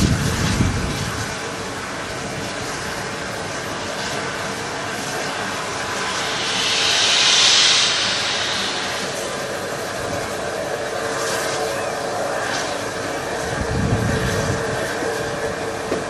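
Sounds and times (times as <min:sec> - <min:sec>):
rush of steam from drain cocks: 0:00.0 - 0:16.0
steam locomotive hissing: 0:00.0 - 0:16.0.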